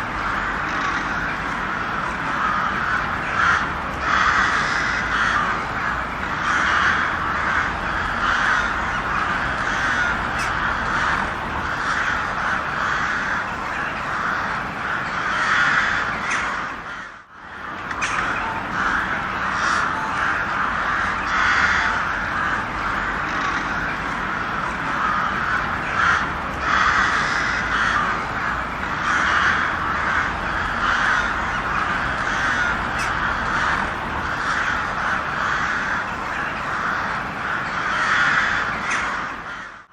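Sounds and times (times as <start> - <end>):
crows cawing: 0.0 - 39.9.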